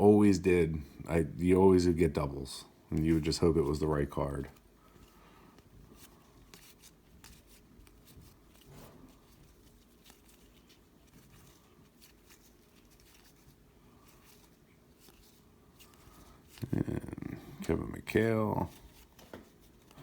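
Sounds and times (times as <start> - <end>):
trading cards being handled: 2.9 - 20.0.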